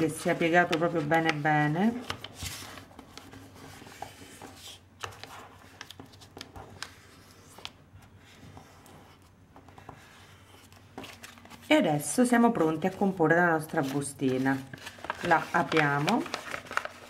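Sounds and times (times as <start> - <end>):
paper rustling and crackling: 0.0 - 11.8, 12.4 - 17.0.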